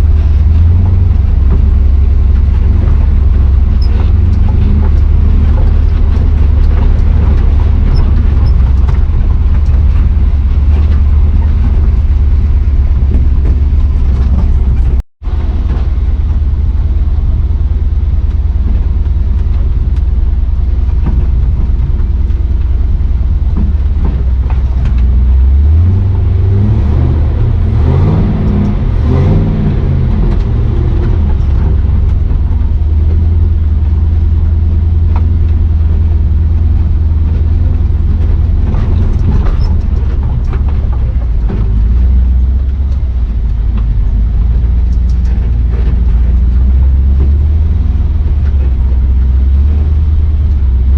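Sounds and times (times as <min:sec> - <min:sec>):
knocks and rattles: 0:00.0 - 0:50.9
truck engine revving: 0:00.0 - 0:50.9.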